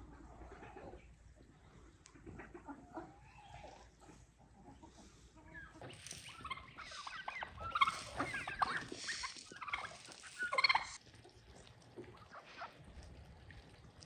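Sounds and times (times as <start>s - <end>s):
turkeys and chickens calling: 0.0s - 12.9s.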